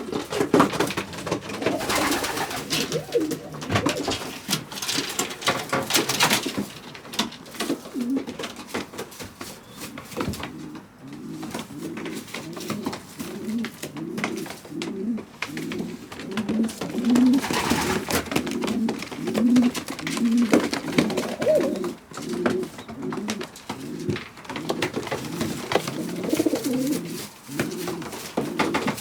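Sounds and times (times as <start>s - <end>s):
pigeons cooing: 0.0s - 6.7s, 7.5s - 8.4s, 9.5s - 29.0s.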